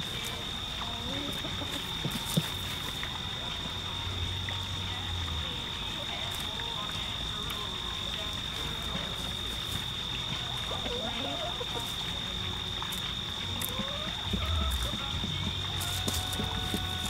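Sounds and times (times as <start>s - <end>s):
high-pitched insect drone: 0.0s - 17.0s
chickens clucking softly: 0.1s - 17.0s.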